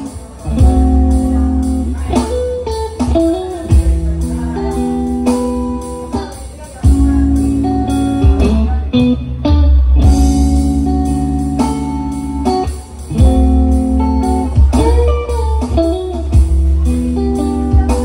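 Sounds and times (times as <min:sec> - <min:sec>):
electric guitar: 0:00.0 - 0:18.0
heavy bass: 0:00.0 - 0:18.0
keyboard chords: 0:00.0 - 0:18.0
steady drum beat: 0:00.0 - 0:18.0.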